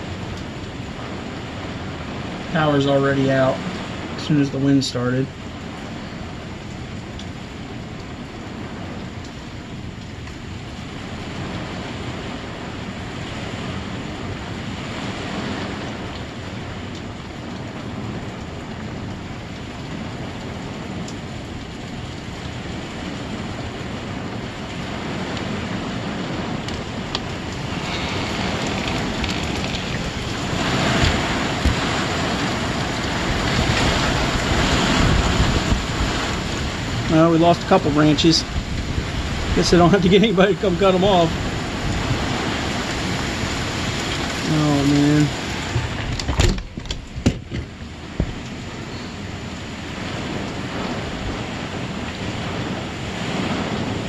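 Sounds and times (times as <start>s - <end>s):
heavy rain: 0.0s - 54.0s
wind gusts buffeting microphone: 0.0s - 54.0s.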